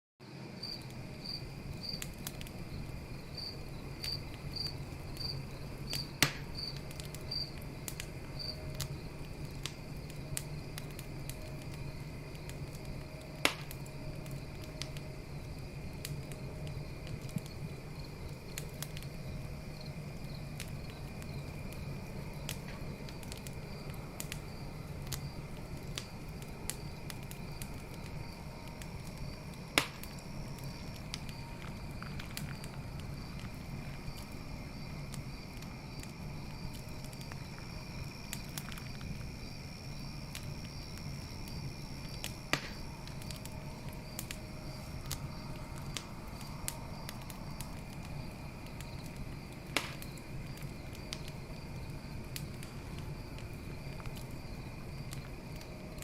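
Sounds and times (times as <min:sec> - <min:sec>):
cricket chirping: 0:00.2 - 0:56.0
high insect drone: 0:00.2 - 0:56.0
campfire crackling and popping: 0:00.3 - 0:56.0.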